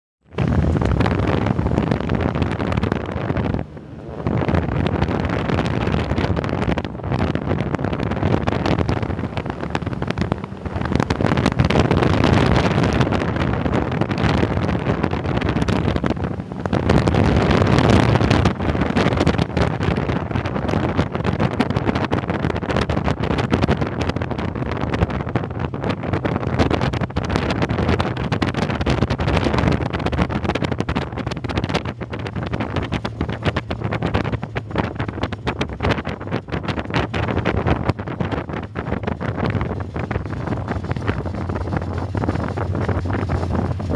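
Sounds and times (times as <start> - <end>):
dune buggy engine running: 0.3 - 43.9
wind buffeting microphone: 0.3 - 43.9.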